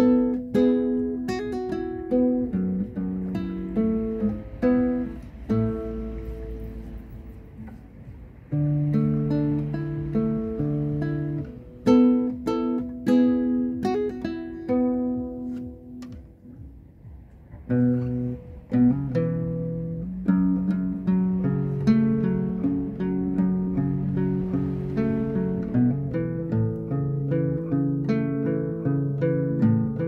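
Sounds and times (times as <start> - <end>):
acoustic guitar picking: 0.0 - 30.0.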